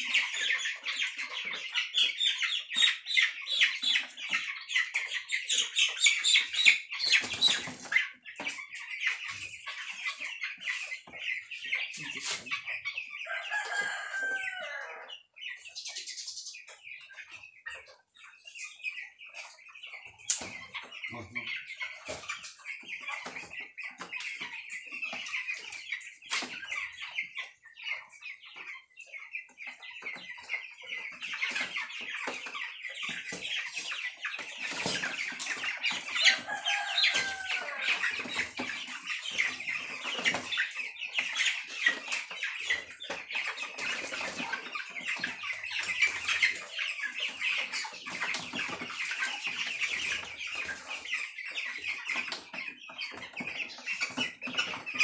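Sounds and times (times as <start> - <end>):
chickens peeping and clucking: 0.0 - 55.0.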